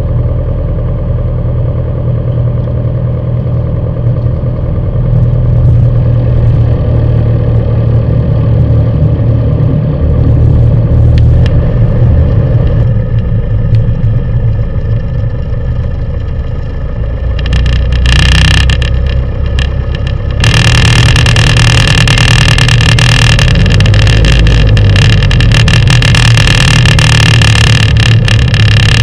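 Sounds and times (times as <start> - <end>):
light aircraft piston engine: 0.0 - 29.0.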